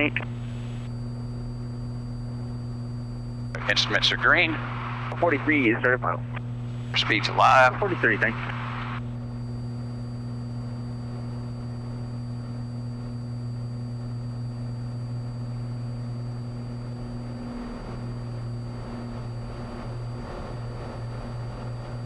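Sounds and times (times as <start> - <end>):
airplane engine and propeller drone: 0.0 - 22.0.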